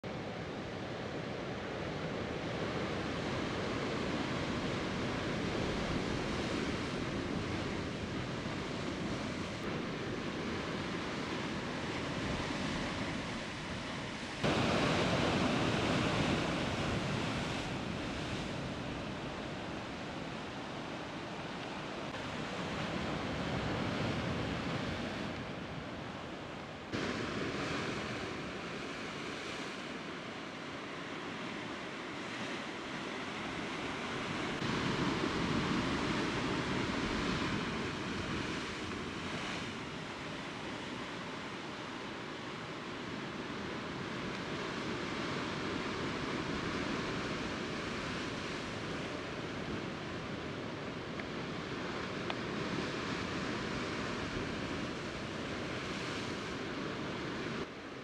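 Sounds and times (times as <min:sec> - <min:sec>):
surf washing against rocks: 0:02.5 - 0:25.8, 0:26.9 - 0:57.7.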